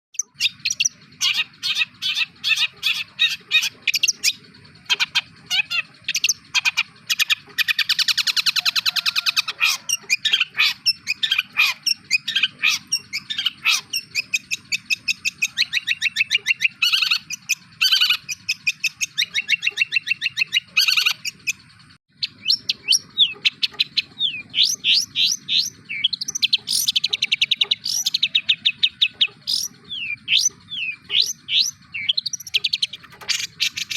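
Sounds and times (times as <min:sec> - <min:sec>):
bird singing rapid chirps and trills: 0:00.1 - 0:33.9
long buzzy bird trill: 0:00.2 - 0:33.9.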